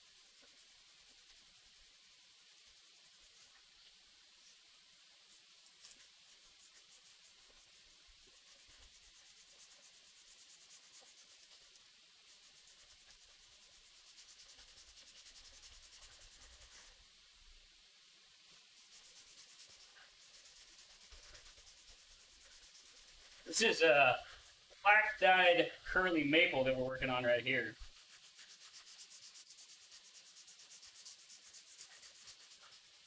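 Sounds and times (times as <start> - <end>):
sandpaper rubbing on wood: 0.0 - 3.8, 4.4 - 17.1, 18.5 - 23.5, 27.8 - 33.0.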